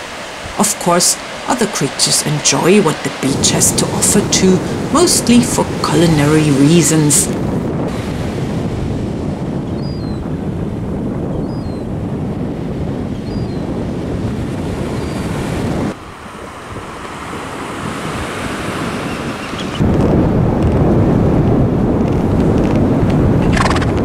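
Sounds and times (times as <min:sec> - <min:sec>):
surf washing on sandy beach: 0:00.0 - 0:11.3, 0:11.9 - 0:24.0
wind buffeting microphone: 0:01.2 - 0:24.0.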